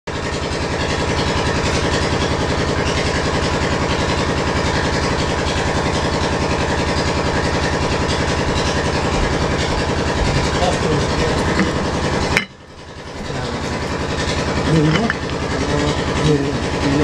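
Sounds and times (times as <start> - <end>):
engine idling: 0.1 - 17.0.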